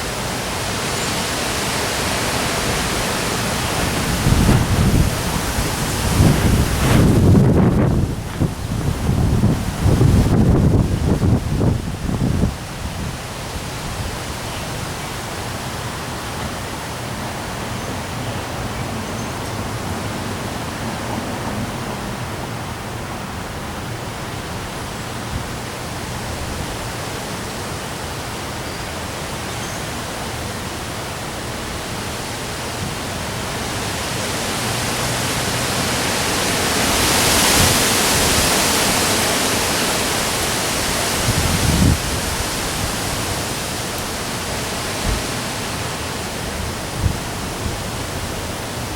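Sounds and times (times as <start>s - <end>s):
heavy rain: 0.0s - 48.9s
strong wind: 0.0s - 48.9s.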